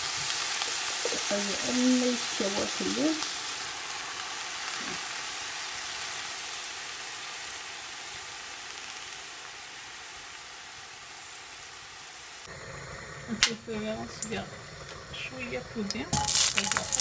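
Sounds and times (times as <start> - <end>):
leaves sizzling in a hot pan: 0.0 - 17.0.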